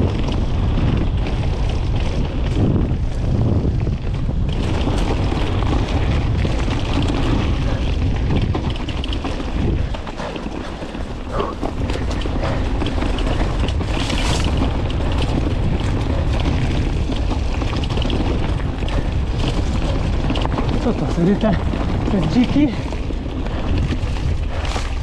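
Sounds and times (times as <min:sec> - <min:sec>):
bike rattling clicks: 0:00.0 - 0:25.0
wind buffeting microphone: 0:00.0 - 0:25.0.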